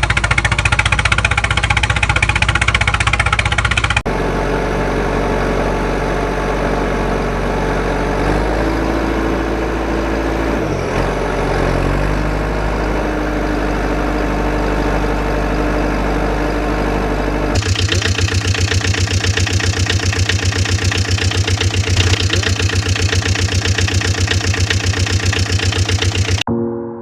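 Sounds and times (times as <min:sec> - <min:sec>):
fast diesel chugging: 0:00.0 - 0:26.5
vehicle engine running: 0:00.0 - 0:26.5.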